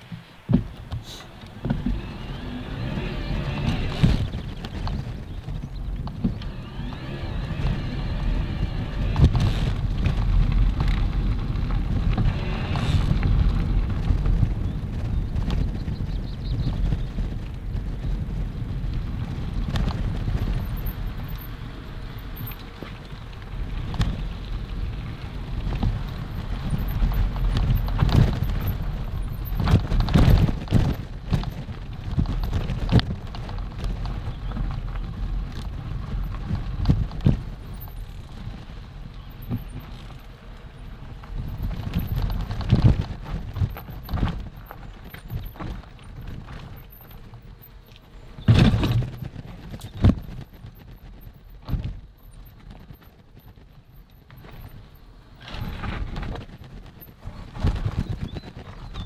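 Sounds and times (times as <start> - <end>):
bike knocking and rattling: 0.0 - 59.0
bike tyres rumbling on stony trail: 0.0 - 59.0.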